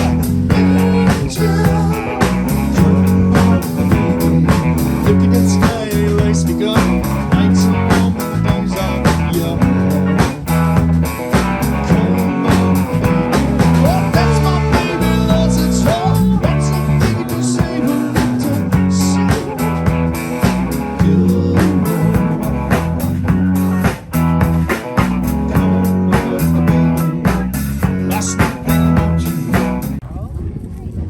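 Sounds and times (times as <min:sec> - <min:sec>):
blues rock band music: 0:00.0 - 0:30.0.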